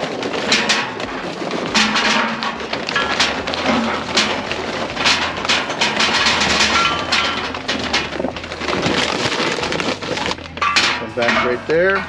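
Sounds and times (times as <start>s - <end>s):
charcoal clattering into metal basket: 0.0s - 12.0s.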